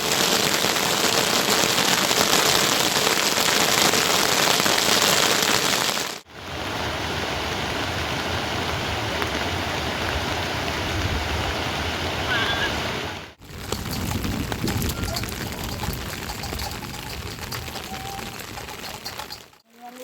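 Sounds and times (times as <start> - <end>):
dull low rush of rain: 0.0 - 19.6
heavy rain hissing: 0.0 - 19.6.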